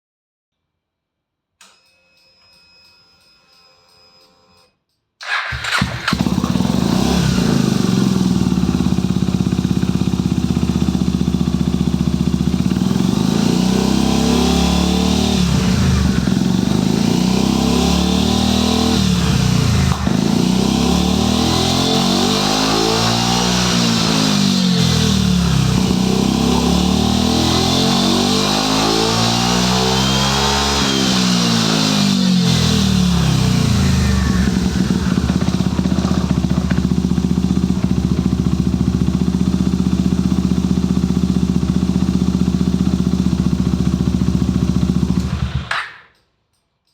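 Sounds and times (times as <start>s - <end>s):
scooter engine revving and idling: 5.2s - 45.7s.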